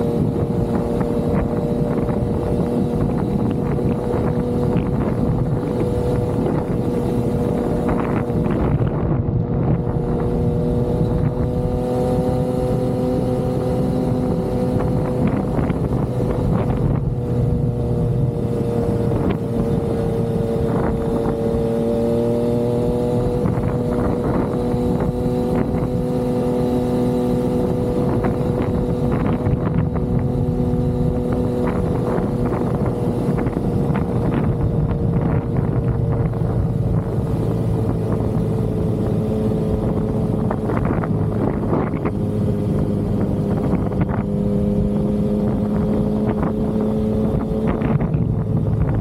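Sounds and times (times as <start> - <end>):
motorcycle engine cruising: 0.0 - 49.0
wind and road noise: 0.0 - 49.0.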